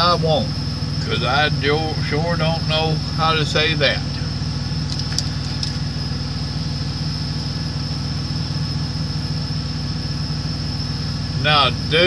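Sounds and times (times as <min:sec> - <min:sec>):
high whine: 0:00.0 - 0:12.0
truck engine idling: 0:00.0 - 0:12.0.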